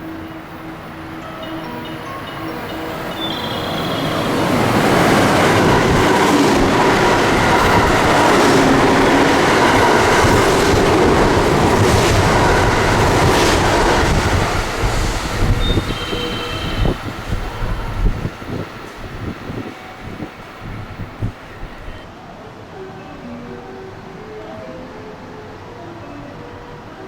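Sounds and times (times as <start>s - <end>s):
train wheels rumbling on rails: 0.0s - 22.1s.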